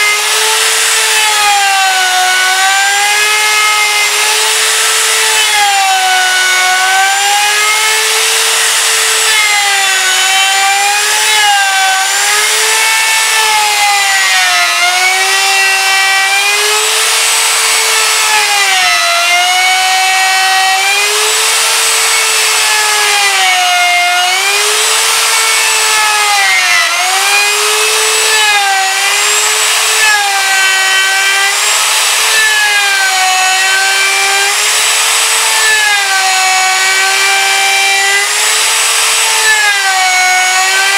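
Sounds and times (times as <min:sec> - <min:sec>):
router whining while cutting wood: 0:00.0 - 0:40.9.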